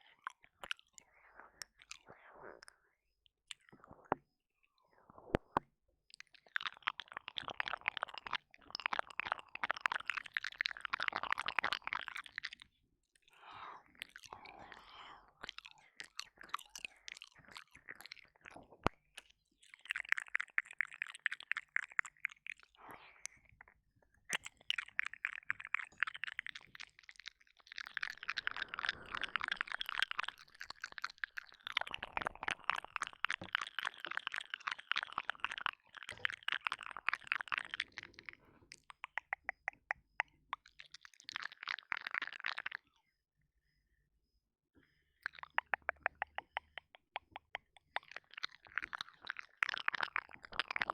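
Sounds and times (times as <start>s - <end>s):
wet licking and sucking: 0.0s - 2.8s, 6.1s - 42.9s, 45.2s - 50.9s.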